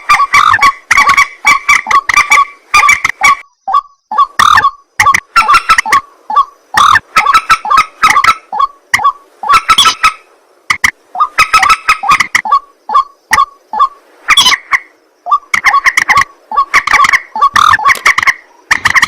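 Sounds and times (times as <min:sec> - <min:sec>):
waterhen calling coarse notes: 0:00.0 - 0:19.0.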